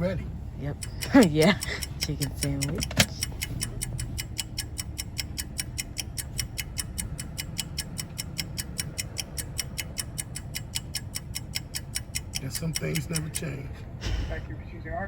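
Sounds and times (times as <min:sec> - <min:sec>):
car idling rumble: 0:00.0 - 0:15.0
turn signal ticking: 0:00.0 - 0:15.0.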